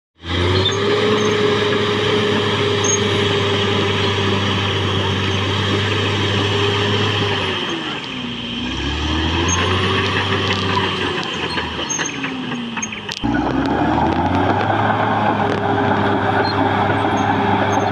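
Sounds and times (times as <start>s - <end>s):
bulldozer diesel engine: 0.2s - 17.9s.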